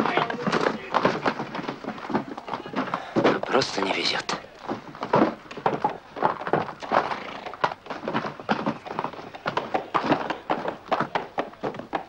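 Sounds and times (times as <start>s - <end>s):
horse hooves clattering: 0.0s - 12.0s.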